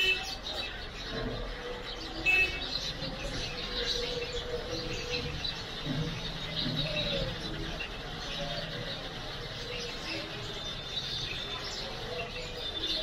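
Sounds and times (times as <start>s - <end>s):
birds chirping: 0.0s - 13.0s
low hum of traffic and people: 0.0s - 13.0s.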